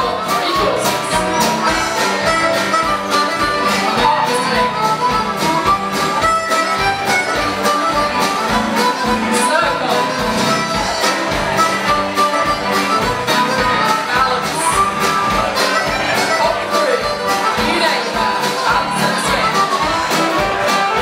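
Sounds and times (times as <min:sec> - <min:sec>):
folk dance band playing: 0:00.0 - 0:21.0.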